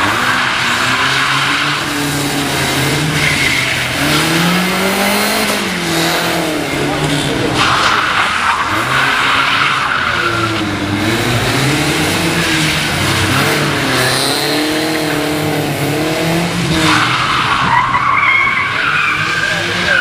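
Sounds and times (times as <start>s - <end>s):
car engine revving: 0.0s - 20.0s
tyres skidding on wet tarmac: 0.0s - 20.0s.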